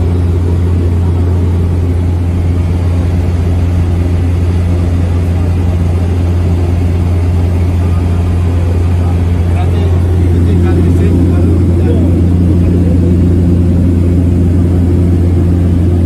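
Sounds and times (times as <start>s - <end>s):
propeller airplane cabin drone: 0.0s - 16.0s.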